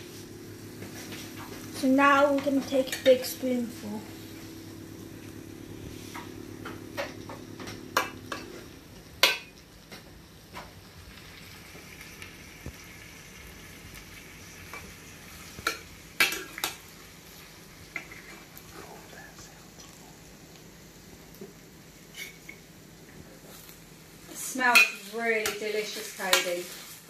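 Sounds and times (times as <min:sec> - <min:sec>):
low steady hum: 0:00.0 - 0:26.4.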